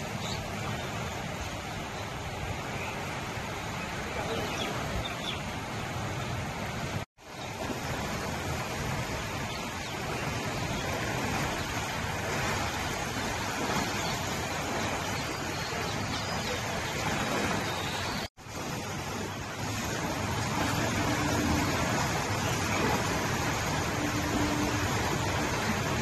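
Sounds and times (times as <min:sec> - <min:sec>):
river rushing: 0:00.0 - 0:26.0.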